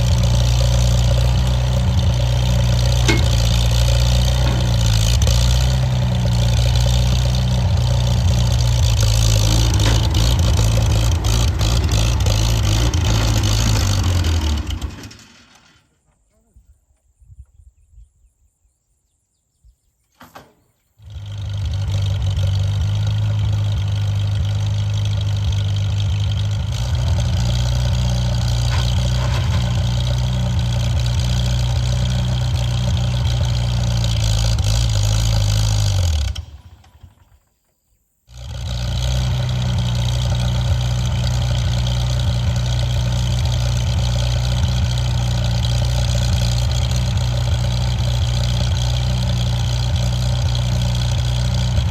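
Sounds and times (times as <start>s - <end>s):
tractor engine idling: 0.0s - 15.8s, 21.0s - 51.9s.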